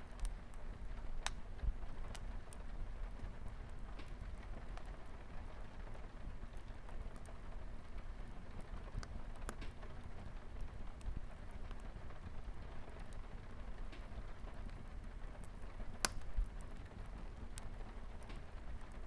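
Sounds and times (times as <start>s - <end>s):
rain pattering on a window: 0.0s - 19.0s
wood fire crackling: 0.0s - 19.0s.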